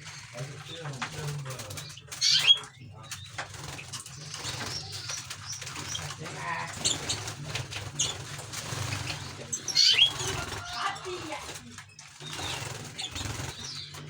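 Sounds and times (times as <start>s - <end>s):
cage birds chirping: 0.0s - 14.0s.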